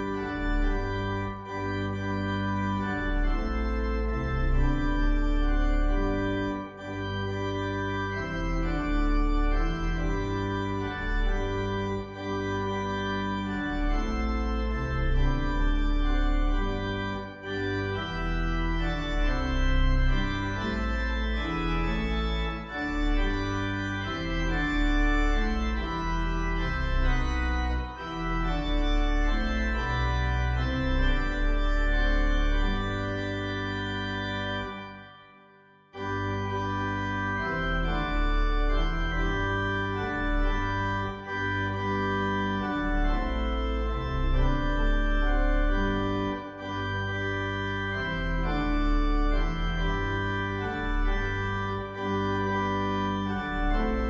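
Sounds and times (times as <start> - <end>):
organ playing sustained chords: 0.0 - 54.0.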